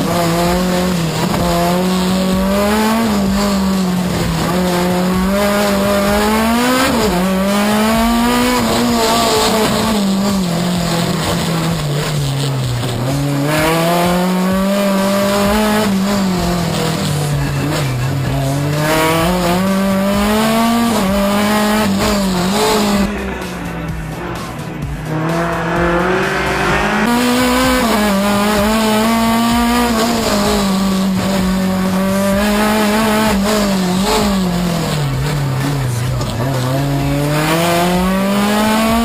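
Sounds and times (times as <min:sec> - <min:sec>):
race car engine revving: 0:00.0 - 0:39.0.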